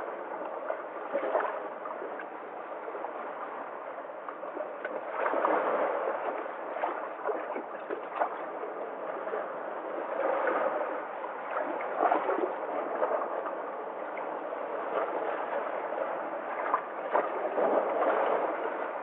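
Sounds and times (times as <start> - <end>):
sea water washing and sloshing: 0.0 - 19.0
small water splashes: 0.0 - 19.0.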